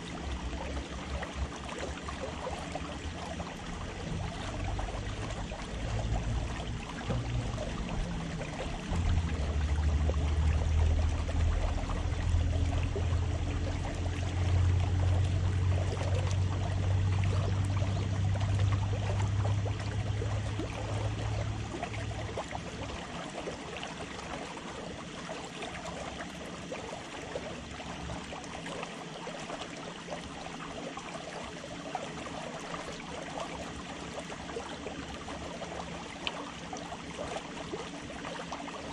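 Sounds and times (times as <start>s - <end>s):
water lapping against concrete: 0.0s - 38.9s.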